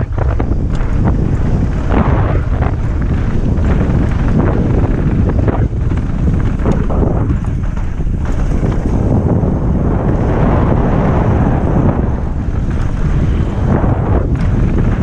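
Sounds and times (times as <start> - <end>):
bike knocking and rattling: 0.0 - 15.0
tyres rumbling over dirt: 0.0 - 15.0
wind rushing over microphone: 0.0 - 15.0.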